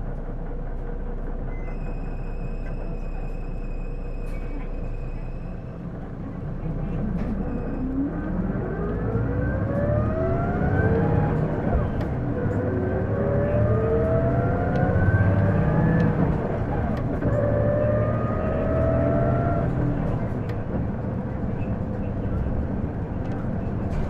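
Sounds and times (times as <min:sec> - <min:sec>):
bus pulling away: 0:00.0 - 0:24.0.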